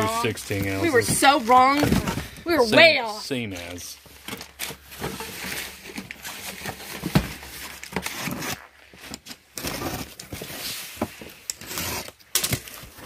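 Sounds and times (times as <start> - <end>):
cardboard rustling and scraping: 0.0 - 13.0.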